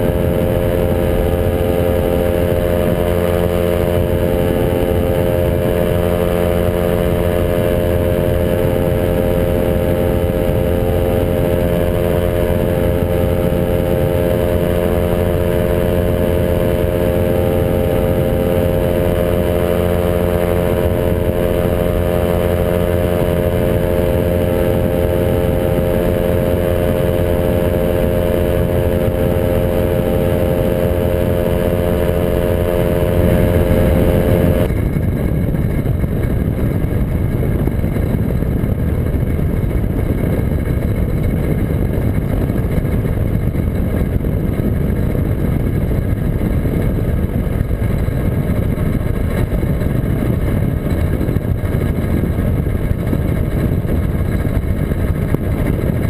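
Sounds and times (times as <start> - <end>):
aircraft engine running: 0.0 - 56.0
wind on microphone: 0.0 - 56.0.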